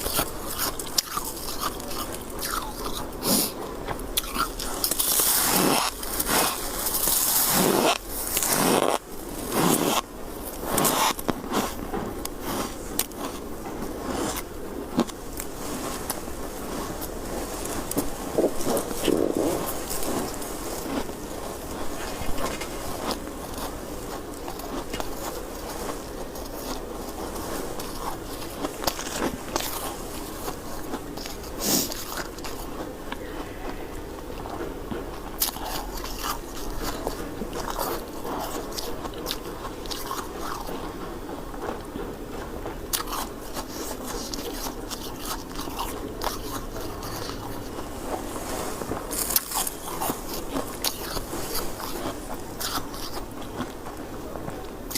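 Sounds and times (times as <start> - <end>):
person chewing ice: 0.0 - 54.9.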